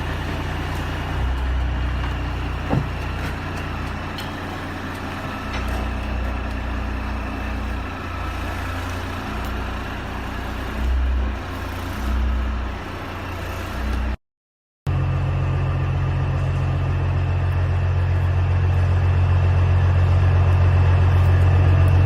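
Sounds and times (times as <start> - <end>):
engine running with low rumble: 0.0 - 14.2, 14.9 - 22.0.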